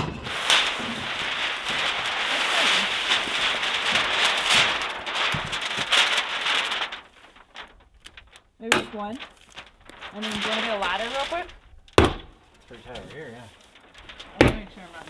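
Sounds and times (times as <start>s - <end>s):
plastic sheet rustling and crinkling: 0.0s - 15.0s.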